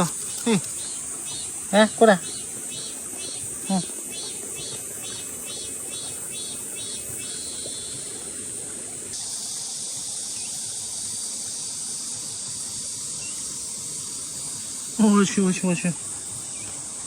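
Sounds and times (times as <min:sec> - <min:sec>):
high-pitched insect buzz: 0:00.0 - 0:17.0
low hiss-like insect buzz: 0:00.0 - 0:17.0
pulsing insect call: 0:00.0 - 0:17.0.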